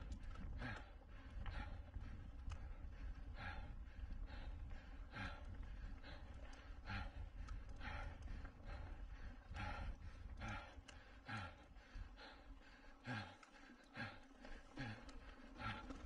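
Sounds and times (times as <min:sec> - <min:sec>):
heavy rhythmic breathing: 0:00.0 - 0:16.0
steady low rumble: 0:00.0 - 0:16.0.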